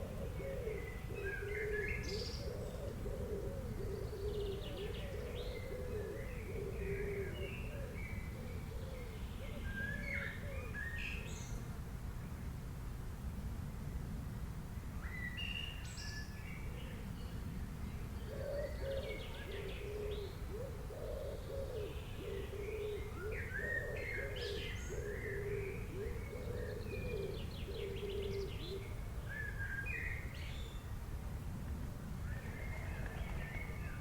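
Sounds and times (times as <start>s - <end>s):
low background hiss: 0.0s - 34.0s.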